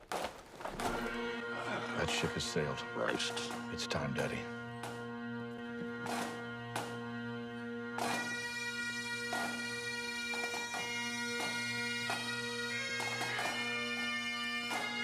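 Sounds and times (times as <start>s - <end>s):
bagpipes playing slow tune: 0.6s - 15.0s.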